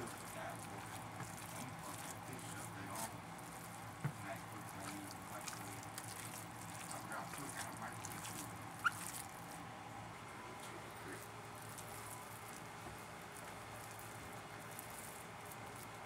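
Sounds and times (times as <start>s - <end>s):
hand kneading wet mixture: 0.0s - 16.0s.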